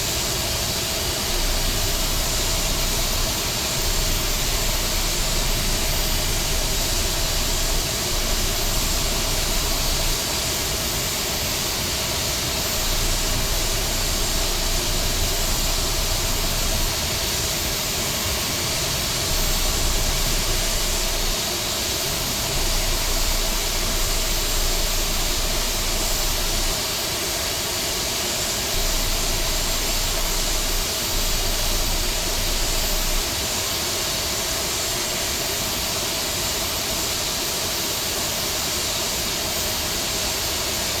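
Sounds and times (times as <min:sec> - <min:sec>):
jet engines rushing hiss: 0:00.0 - 0:41.0.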